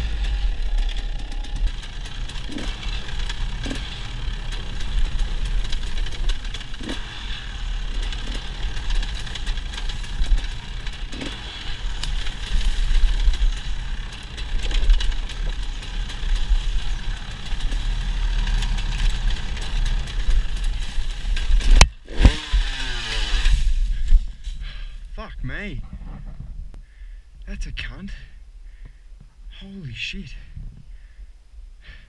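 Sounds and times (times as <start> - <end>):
dirt bike engine: 0.0 - 27.2.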